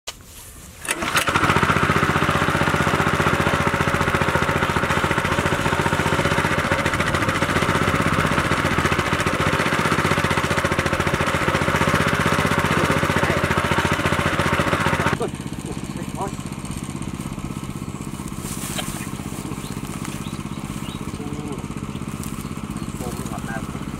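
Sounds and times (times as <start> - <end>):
petrol water pump running: 0.8 - 23.9.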